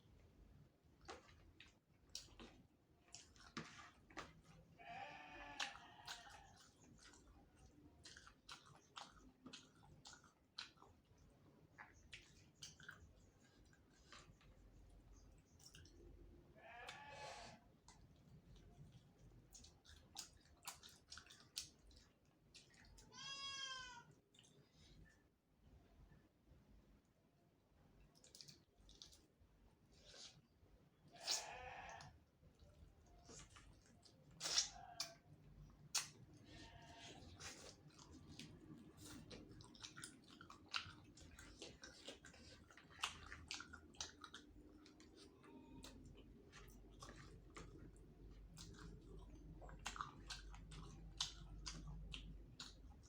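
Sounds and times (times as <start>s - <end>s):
close-up wet chewing: 0.0s - 26.1s, 27.0s - 53.0s
crunching while eating: 1.0s - 25.2s, 28.1s - 53.0s.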